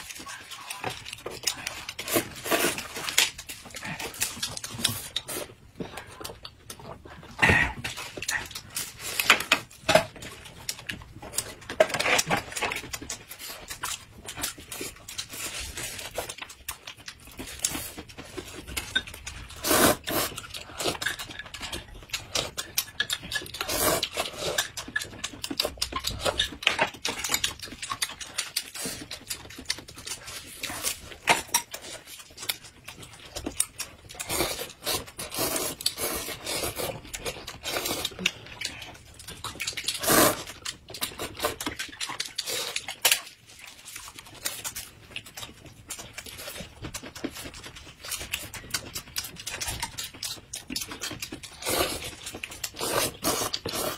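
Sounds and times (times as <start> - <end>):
chewing and slurping: 0.0 - 53.9.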